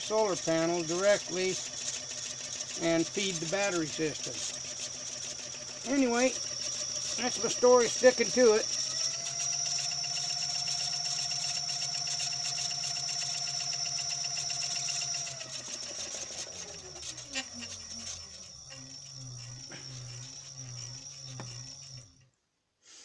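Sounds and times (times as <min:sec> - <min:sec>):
electric motor whine: 0:00.0 - 0:22.3.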